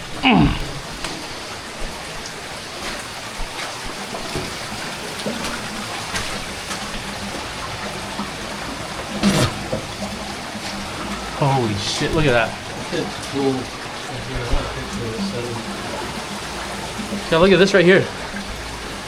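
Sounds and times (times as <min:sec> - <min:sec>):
water rushing: 0:00.0 - 0:19.0
small splashes and knocks: 0:00.6 - 0:19.0.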